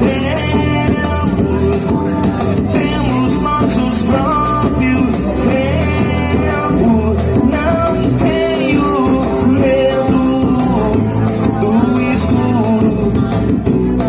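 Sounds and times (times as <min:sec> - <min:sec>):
song with guitar bass and drums: 0:00.0 - 0:14.0.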